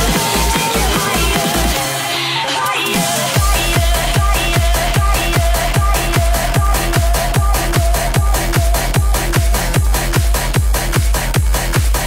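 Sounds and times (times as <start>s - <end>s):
heavy kick drum: 0.0s - 1.8s, 3.4s - 12.0s
fast hard dance music: 0.0s - 12.0s.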